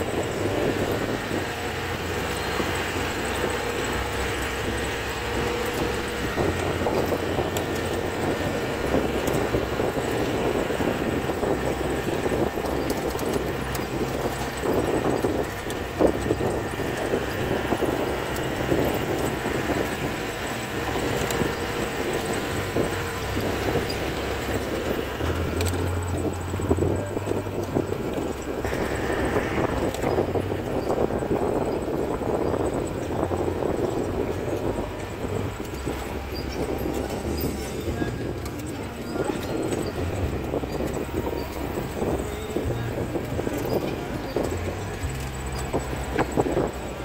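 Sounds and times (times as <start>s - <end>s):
jeep engine running: 0.0s - 47.0s.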